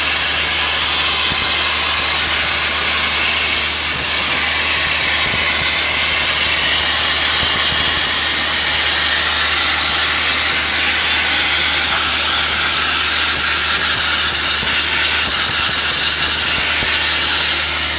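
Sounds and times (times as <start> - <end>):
high steady whistle: 0.0 - 17.9
sandblasting nozzle hissing: 0.0 - 17.9.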